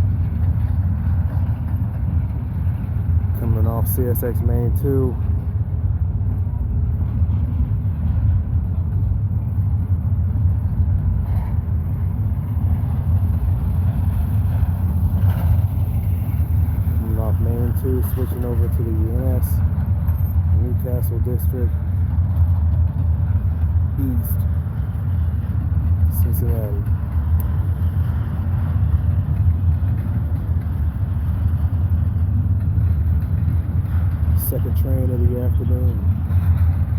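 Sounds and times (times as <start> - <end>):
train rumbling past: 0.0 - 36.9.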